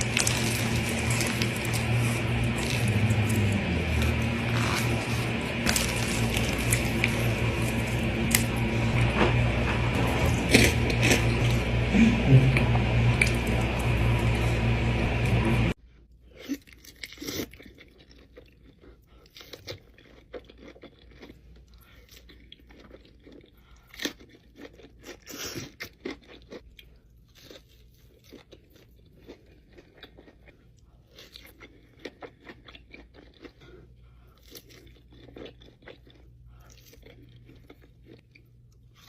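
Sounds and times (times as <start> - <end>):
crunchy bites and chewing: 0.0 - 11.7, 16.3 - 39.0.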